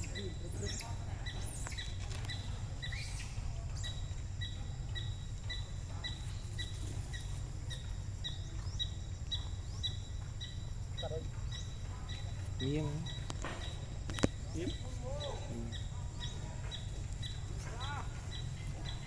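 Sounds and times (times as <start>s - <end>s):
bird chirping: 0.0s - 19.0s
steady low rumble: 1.0s - 19.0s.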